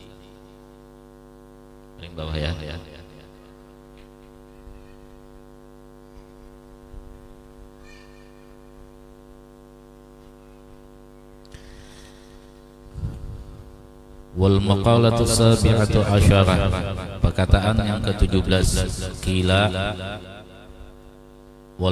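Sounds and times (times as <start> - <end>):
electrical mains hum: 0.0 - 21.9.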